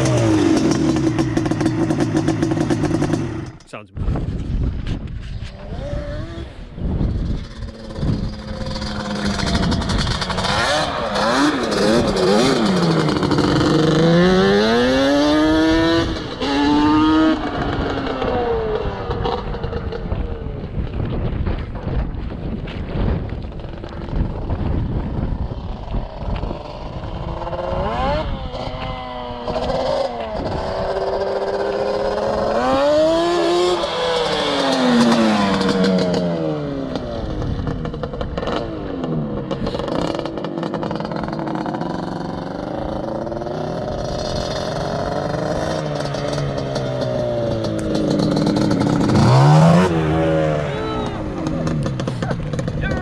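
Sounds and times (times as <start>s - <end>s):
two-stroke engine revving: 0.0s - 3.8s, 5.5s - 20.3s, 25.4s - 53.0s.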